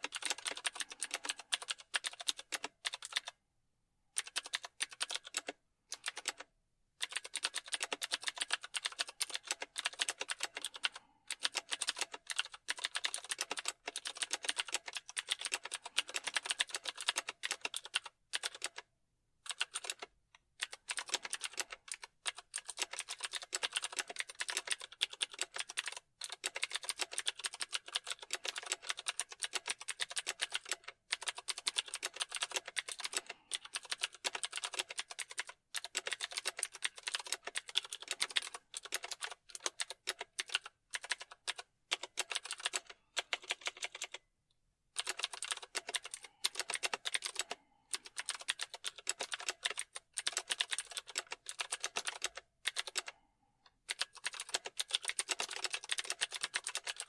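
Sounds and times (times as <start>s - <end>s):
fast keyboard typing: 0.0s - 3.4s, 4.2s - 18.9s, 19.5s - 44.2s, 45.0s - 53.2s, 53.8s - 57.0s.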